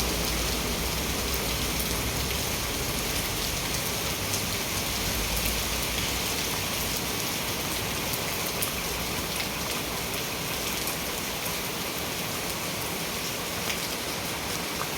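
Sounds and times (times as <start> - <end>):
rain falling steadily: 0.0 - 14.9.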